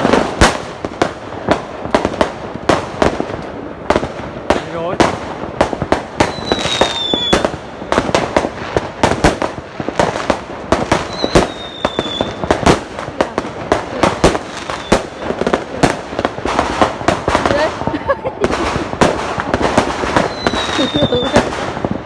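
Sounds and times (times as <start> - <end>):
firecrackers banging: 0.0 - 22.0.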